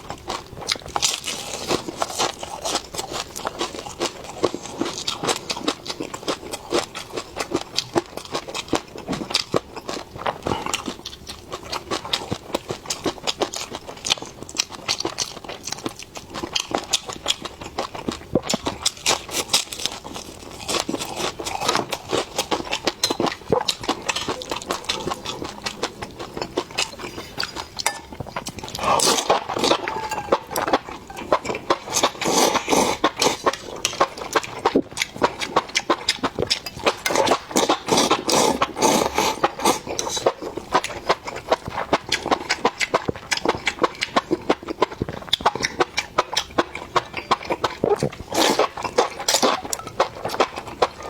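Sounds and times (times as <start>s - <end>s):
person chewing and crunching food: 0.0s - 51.0s.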